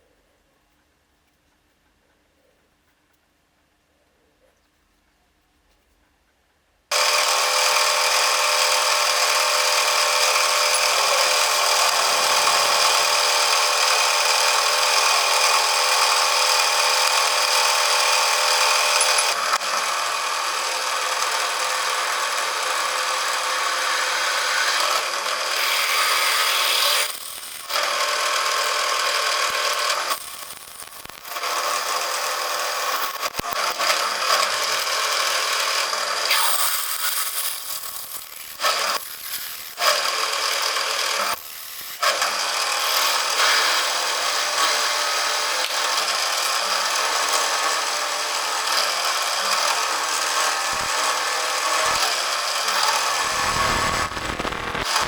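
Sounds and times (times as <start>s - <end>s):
power tool cutting metal: 6.9s - 55.0s.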